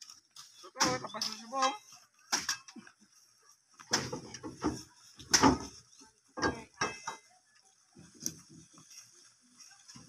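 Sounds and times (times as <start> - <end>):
sugarcane stalks clattering and rustling: 0.0 - 10.0.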